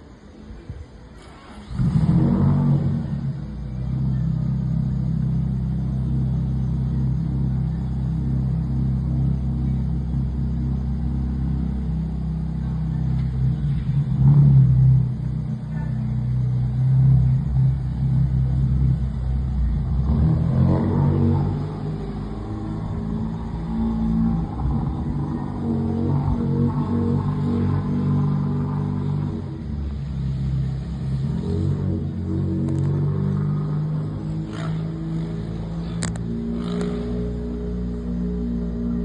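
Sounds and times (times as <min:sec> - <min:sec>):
car engine rumbling: 0:00.0 - 0:39.0
car engine revving: 0:01.2 - 0:39.0.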